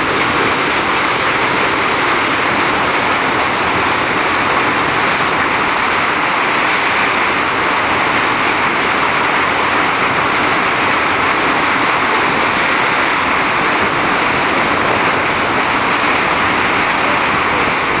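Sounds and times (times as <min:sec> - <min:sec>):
churning river water: 0:00.0 - 0:18.0.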